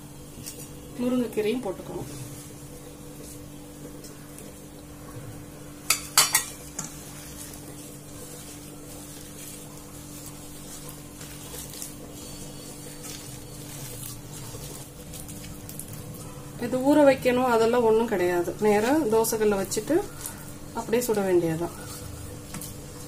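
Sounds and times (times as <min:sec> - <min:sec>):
dough being mixed by hand: 0:00.0 - 0:23.0
steady low hum: 0:00.0 - 0:23.0.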